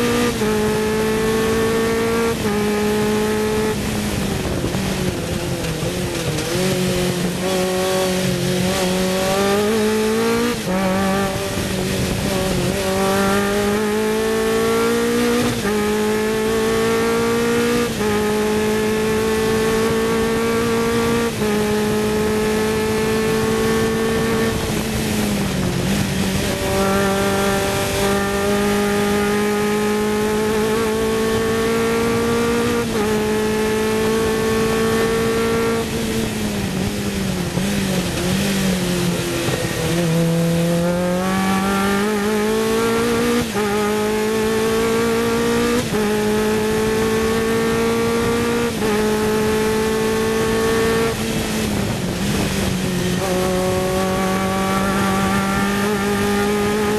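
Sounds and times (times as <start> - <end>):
race car engine at high revs: 0.0 - 56.9.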